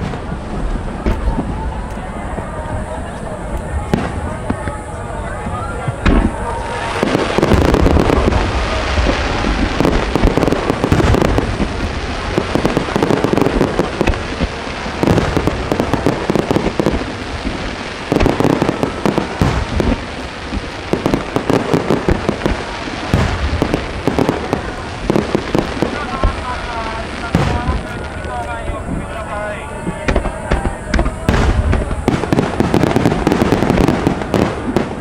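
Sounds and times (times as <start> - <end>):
fireworks booming and crackling: 0.0 - 35.0.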